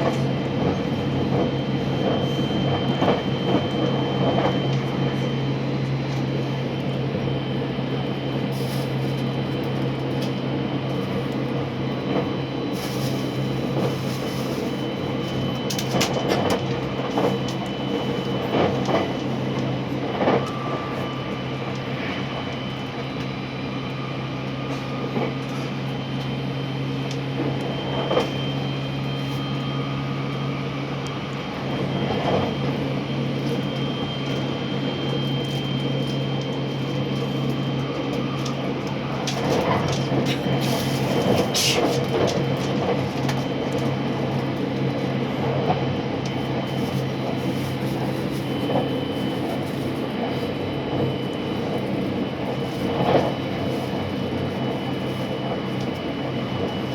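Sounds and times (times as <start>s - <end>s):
train running rumble and hum: 0.0s - 56.9s.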